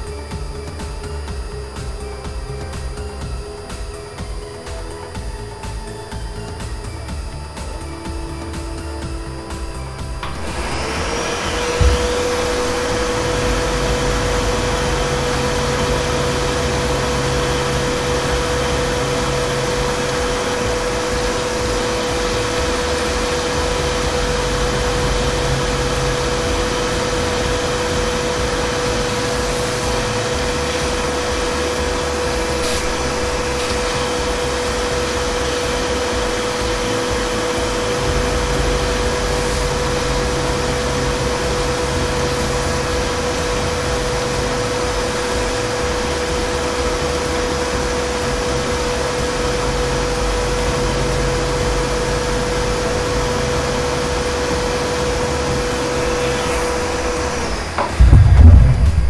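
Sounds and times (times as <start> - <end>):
low hum: 0.0 - 48.1, 55.2 - 59.0
milling spindle high whine: 0.0 - 59.0.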